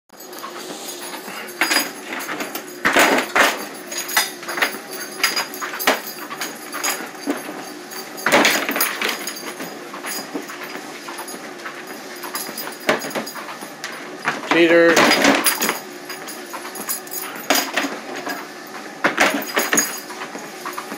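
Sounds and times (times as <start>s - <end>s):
treadmill motor and belt hum: 0.2s - 20.9s
footsteps thumping on treadmill: 0.4s - 20.9s.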